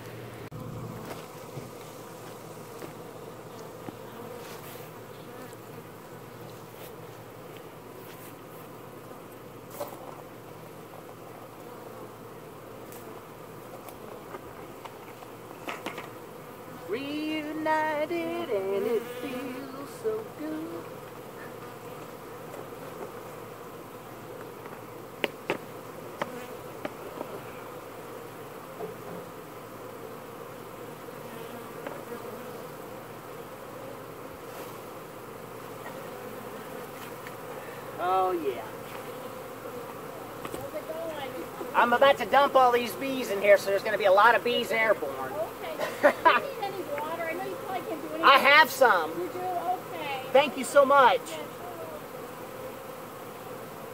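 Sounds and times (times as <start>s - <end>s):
honeybees buzzing: 0.0s - 53.9s.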